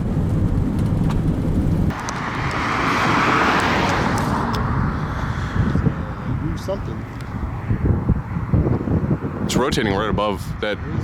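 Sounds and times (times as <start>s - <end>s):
road rumble: 0.0s - 11.0s
wind inside moving car: 0.0s - 11.0s.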